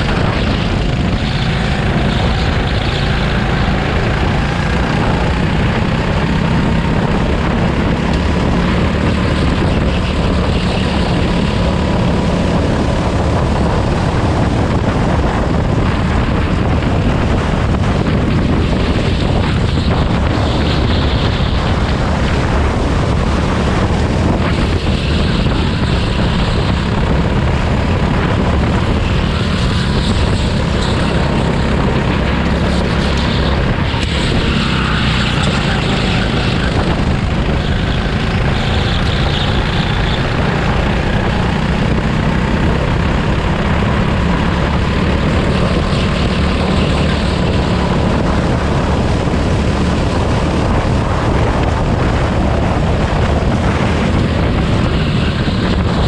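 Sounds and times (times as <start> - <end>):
go-kart engine roaring: 0.0 - 56.0.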